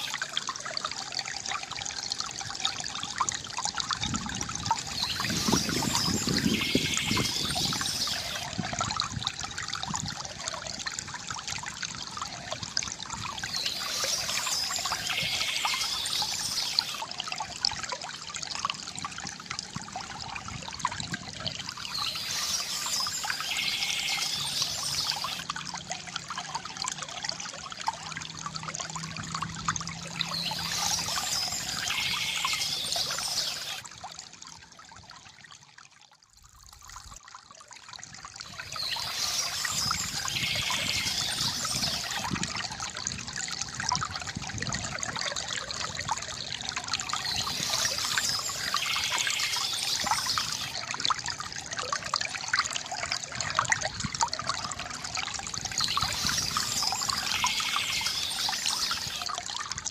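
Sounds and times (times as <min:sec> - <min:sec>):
water trickling from fountain: 0:00.0 - 0:59.9.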